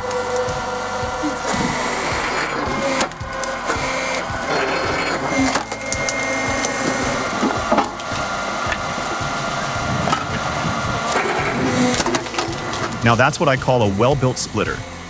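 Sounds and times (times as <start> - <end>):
log splitter engine pulsing: 0.0 - 15.0.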